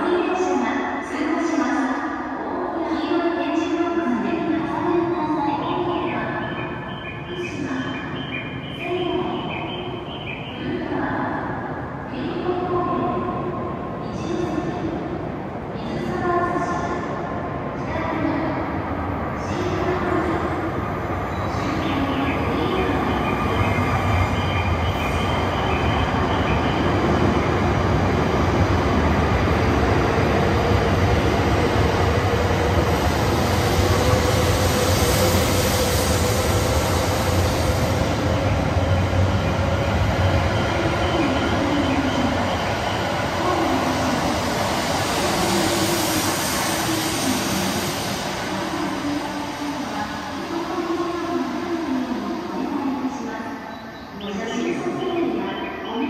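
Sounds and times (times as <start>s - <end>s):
rising train whine: 2.0s - 56.0s.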